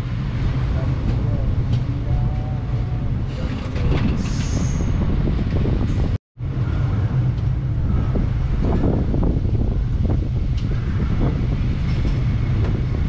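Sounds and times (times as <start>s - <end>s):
train wheels running on track: 0.0s - 13.0s.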